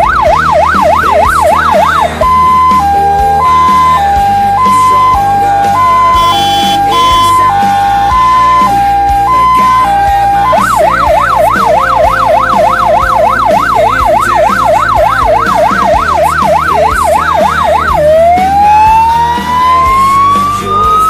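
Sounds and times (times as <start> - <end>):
fire truck siren: 0.0 - 21.0
low musical backing: 0.0 - 21.0.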